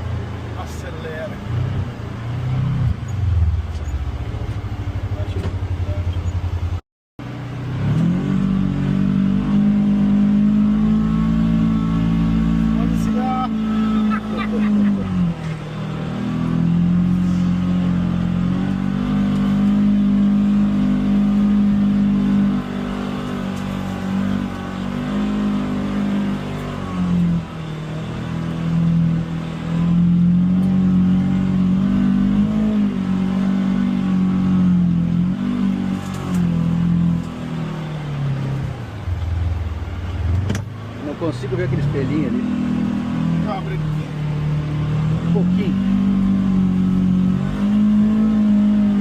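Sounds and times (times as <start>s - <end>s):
utility vehicle engine revving: 0.0s - 49.0s.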